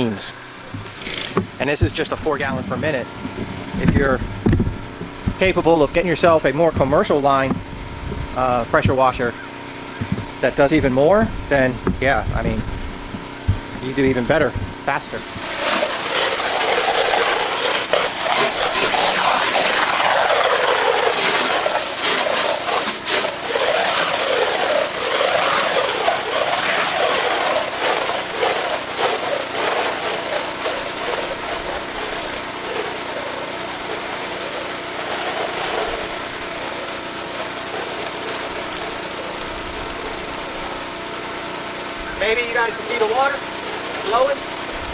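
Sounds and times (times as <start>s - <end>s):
pressure washer spraying water: 0.0s - 44.9s.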